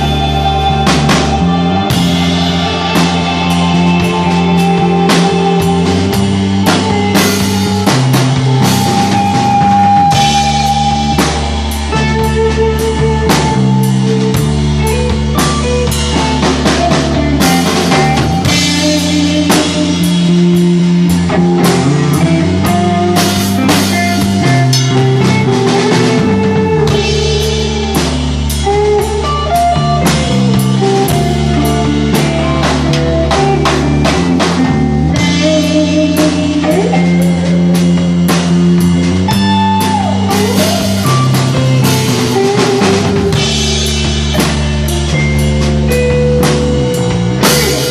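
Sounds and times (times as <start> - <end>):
bass guitar notes: 0.0 - 47.9
drum kit beat: 0.0 - 47.9
electric guitar lines: 0.0 - 47.9.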